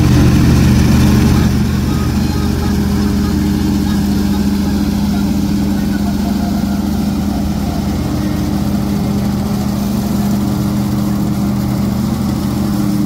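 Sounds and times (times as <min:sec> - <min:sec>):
tractor and reaper droning: 0:00.0 - 0:13.0.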